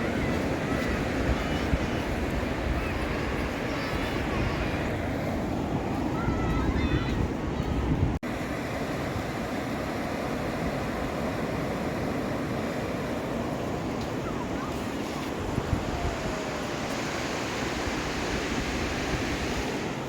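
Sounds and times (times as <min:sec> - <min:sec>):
wind buffeting microphone: 0:00.0 - 0:08.4, 0:10.3 - 0:20.0
ocean surf: 0:00.0 - 0:20.0.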